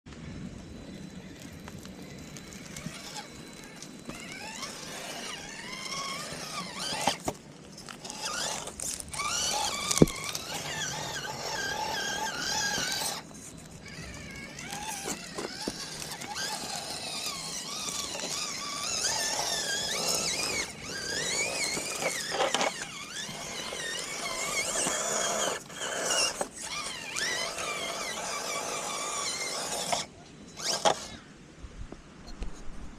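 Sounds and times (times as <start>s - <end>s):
electric motor and gearbox whining: 0.2s - 31.3s.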